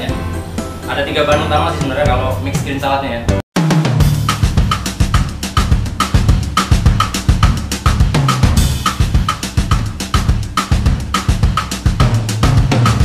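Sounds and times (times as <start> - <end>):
bass line: 0.0 - 13.0
drum kit beat: 0.0 - 13.0.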